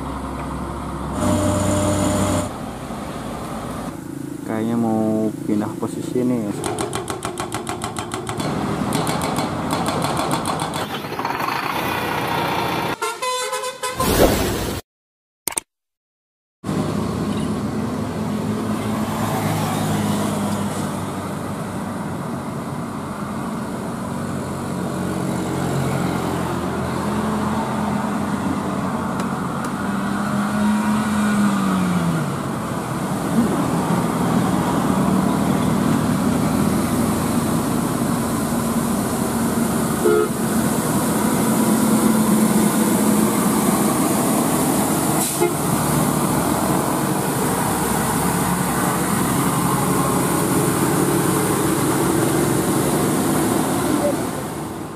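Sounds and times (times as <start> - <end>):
diesel truck engines under load: 0.0 - 13.0, 16.7 - 54.9
road noise: 0.0 - 14.8, 16.6 - 54.9.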